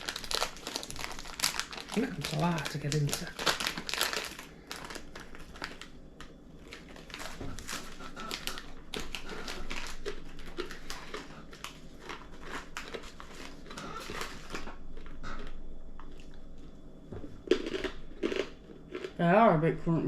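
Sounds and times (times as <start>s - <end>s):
snack packet crackling: 0.0s - 16.4s, 17.4s - 19.1s
crunchy nuts being eaten: 0.0s - 19.4s.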